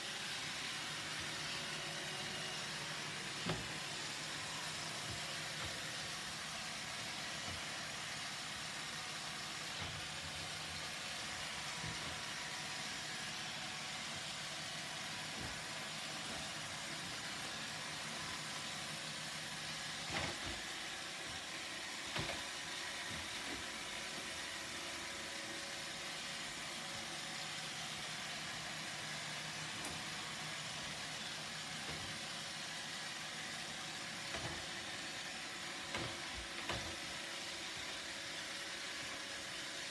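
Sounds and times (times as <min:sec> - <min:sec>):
robot vacuum whirring: 0:00.0 - 0:39.9.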